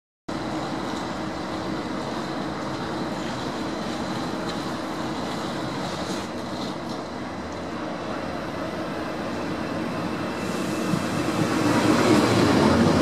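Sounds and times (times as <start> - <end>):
diesel locomotive engine hum: 0.3 - 13.0.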